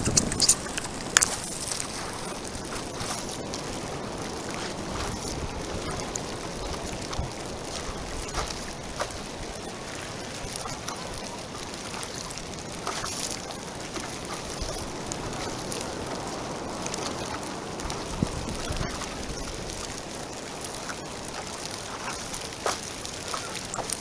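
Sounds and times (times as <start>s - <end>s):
small waves lapping and splashing: 0.0s - 24.0s
wind on microphone: 0.0s - 24.0s.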